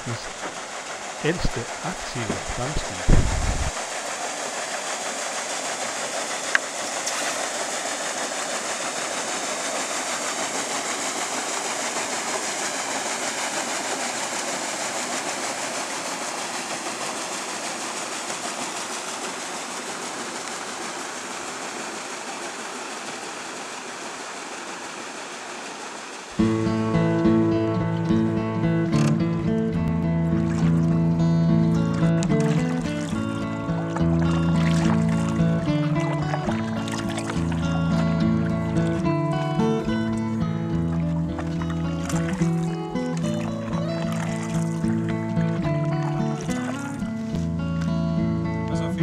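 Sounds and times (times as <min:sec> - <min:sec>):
paddle steamer churning: 0:00.0 - 0:49.0.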